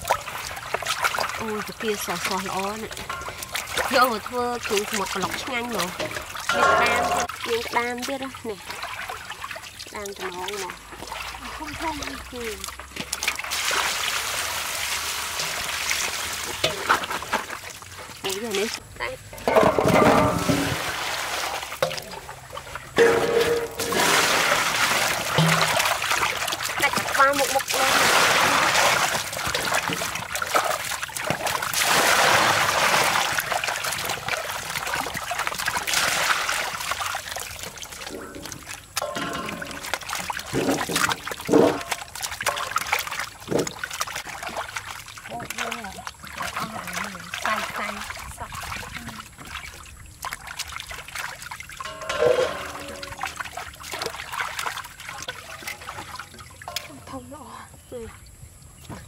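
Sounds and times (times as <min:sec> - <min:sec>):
water pouring and splashing: 0:00.0 - 0:59.0.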